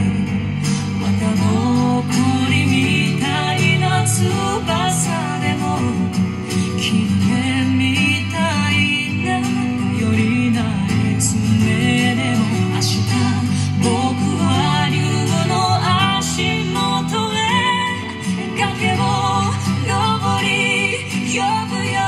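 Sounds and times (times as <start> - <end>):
song through loudspeakers: 0.0 - 22.0.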